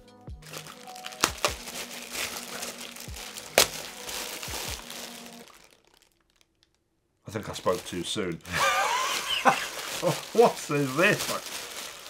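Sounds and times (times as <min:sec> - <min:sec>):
knife slitting plastic bag: 0:00.4 - 0:06.2, 0:07.6 - 0:12.0
plastic rustling and crinkling: 0:00.4 - 0:12.0.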